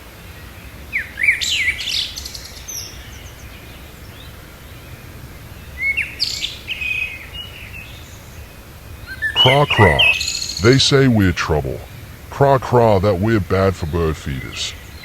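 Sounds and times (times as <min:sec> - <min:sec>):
songbirds chirping and trilling: 0:00.3 - 0:15.0.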